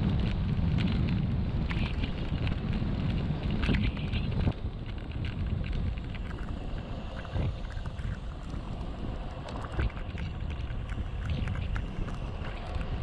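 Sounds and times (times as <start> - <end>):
bike clicks and rattles: 0.0 - 13.0
bike tyres humming on asphalt: 0.0 - 13.0
wind rushing over microphone: 0.0 - 13.0.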